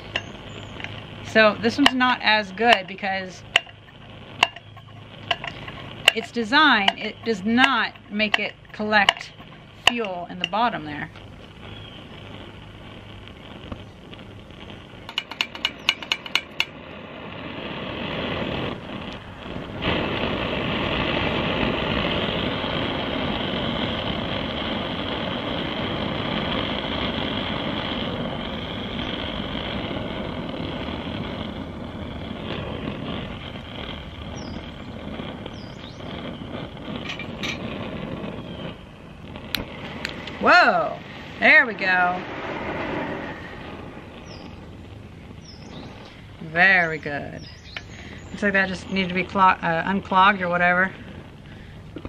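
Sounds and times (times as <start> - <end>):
blowlamp burner hissing: 0.0 - 52.0.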